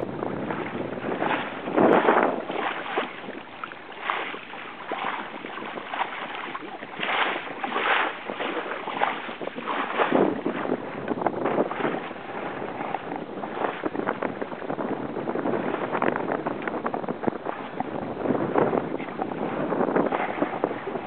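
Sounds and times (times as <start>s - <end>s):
water rushing along a hull: 0.0s - 21.0s
wind buffeting microphone: 0.0s - 21.0s.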